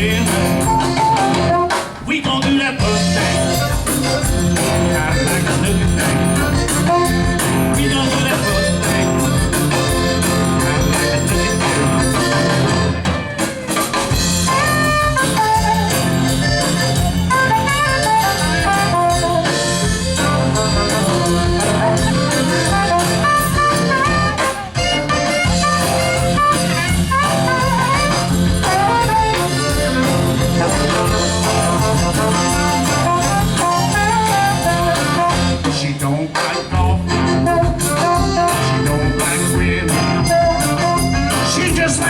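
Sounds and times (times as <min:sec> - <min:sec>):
jazz horns playing melody: 0:00.0 - 0:01.9, 0:02.8 - 0:35.8, 0:36.4 - 0:42.0
bass line: 0:00.0 - 0:42.0
drums: 0:00.0 - 0:42.0.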